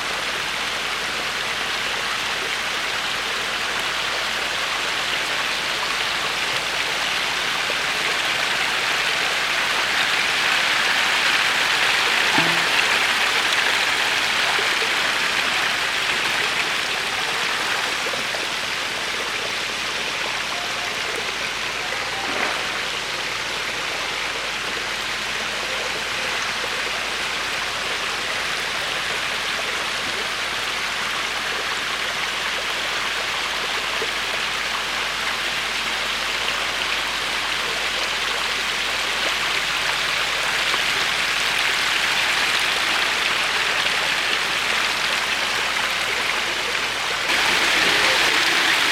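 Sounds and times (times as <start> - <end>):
water rushing and splashing: 0.0 - 48.9.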